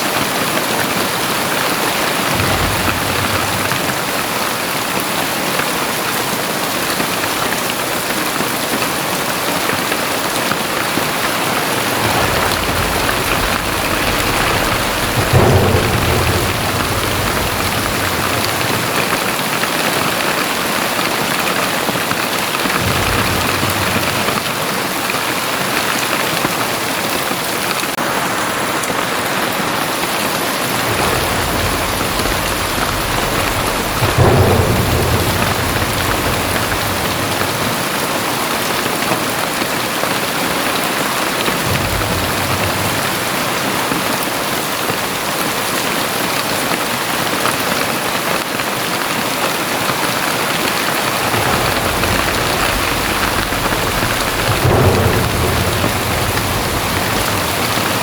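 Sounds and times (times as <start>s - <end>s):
thunder rumbling: 0.0s - 29.6s, 30.2s - 58.0s
heavy rain pouring: 0.0s - 58.0s.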